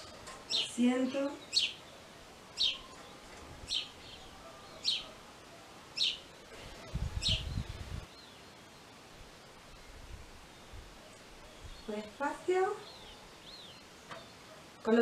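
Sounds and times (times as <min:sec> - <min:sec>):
bird chirping: 0:00.0 - 0:05.2, 0:06.0 - 0:14.9.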